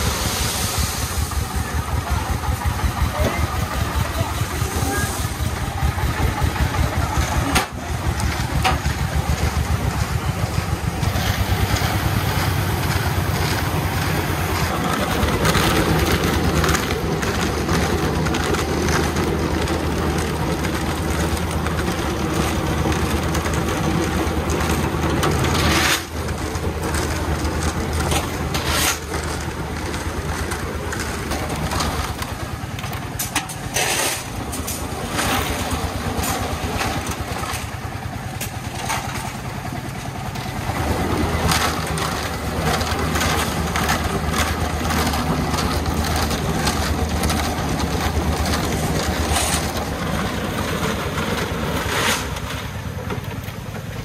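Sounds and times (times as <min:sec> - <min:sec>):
concrete mixer running: 0:00.0 - 0:54.0
diesel engine idling: 0:00.0 - 0:54.0.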